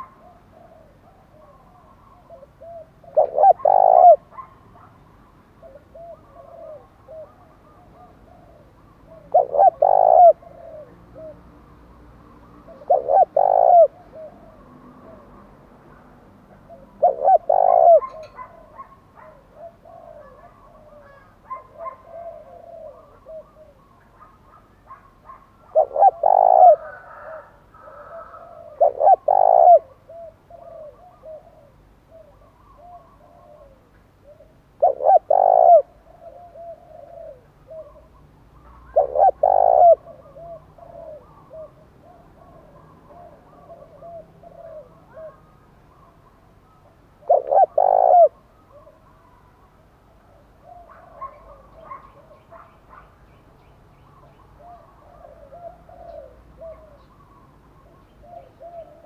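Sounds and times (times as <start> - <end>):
dove cooing: 0.0 - 4.9, 5.5 - 11.6, 12.5 - 15.6, 16.5 - 53.1, 54.2 - 59.0.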